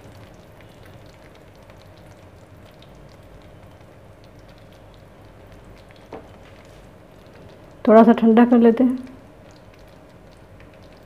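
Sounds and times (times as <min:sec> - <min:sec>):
small crackles and pops: 0:00.0 - 0:07.9, 0:09.0 - 0:11.0
faint steady hum: 0:00.0 - 0:11.0.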